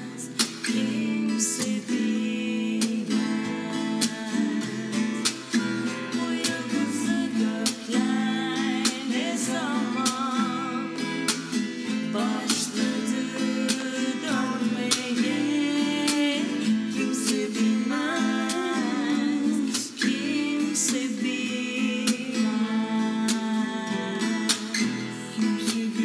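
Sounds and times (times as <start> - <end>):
acoustic guitar strumming: 0.0 - 26.0
woman singing: 0.0 - 26.0.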